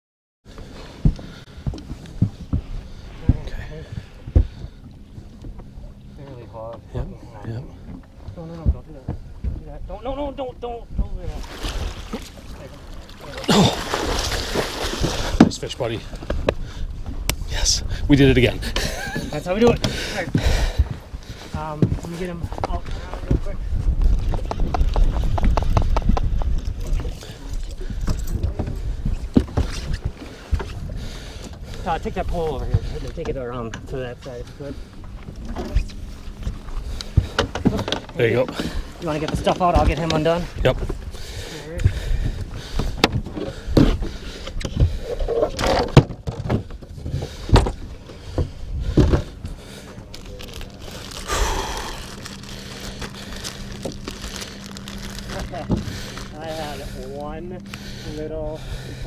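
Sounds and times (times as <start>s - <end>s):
low steady hum: 0.5s - 59.0s
wind rumbling on microphone: 6.8s - 13.0s, 13.9s - 56.7s.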